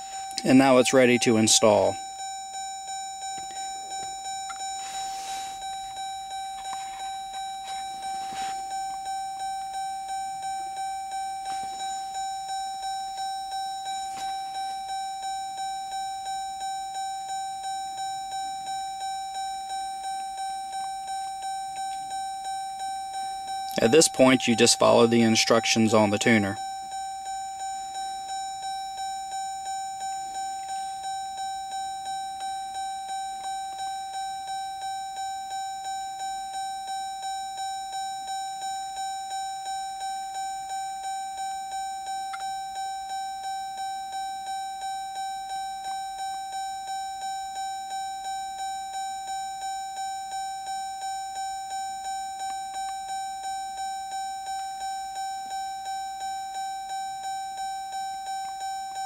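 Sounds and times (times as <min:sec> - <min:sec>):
car door warning chime: 0:00.0 - 0:59.0.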